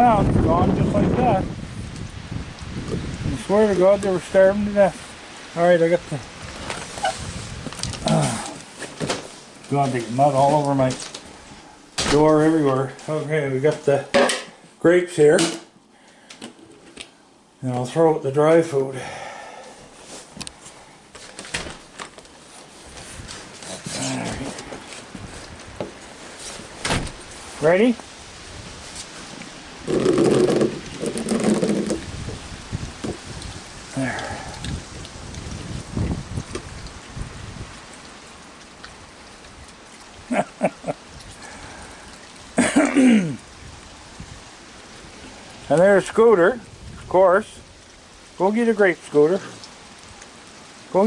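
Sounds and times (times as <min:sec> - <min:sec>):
heavy rain falling: 0:00.0 - 0:15.8, 0:17.8 - 0:51.0.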